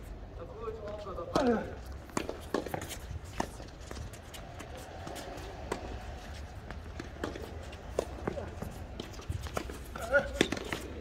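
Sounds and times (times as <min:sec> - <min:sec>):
footsteps on court: 0:00.8 - 0:11.0
tennis ball bouncing: 0:00.8 - 0:11.0.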